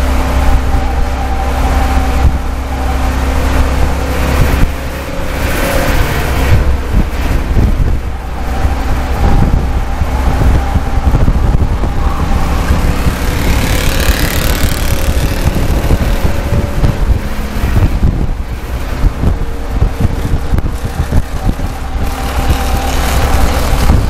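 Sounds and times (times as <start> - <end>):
race car engine running hard: 0.0 - 24.0
road noise: 0.0 - 24.0
rushing wind: 0.0 - 24.0.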